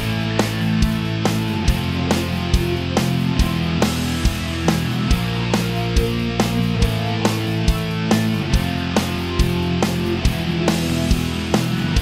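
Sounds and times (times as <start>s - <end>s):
rock music with guitar: 0.0s - 12.0s
steady drum beat: 0.0s - 12.0s.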